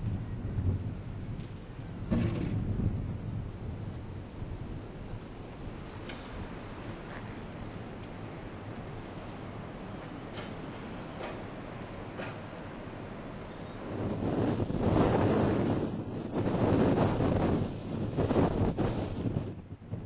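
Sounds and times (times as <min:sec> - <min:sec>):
crickets trilling: 0:00.0 - 0:19.6
wind: 0:00.0 - 0:20.0.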